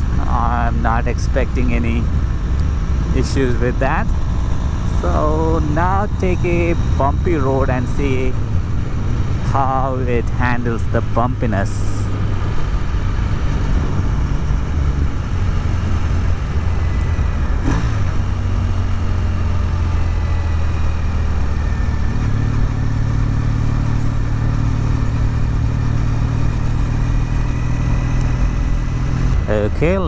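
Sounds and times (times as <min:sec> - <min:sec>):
motorcycle engine running: 0:00.0 - 0:30.0
road and wind noise: 0:00.0 - 0:30.0.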